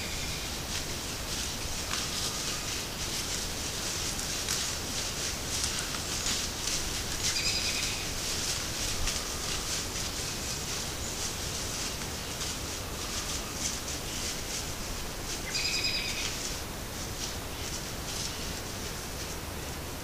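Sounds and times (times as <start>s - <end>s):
deer stepping through dry leaves: 0.0s - 20.0s
steady hiss: 0.0s - 20.0s.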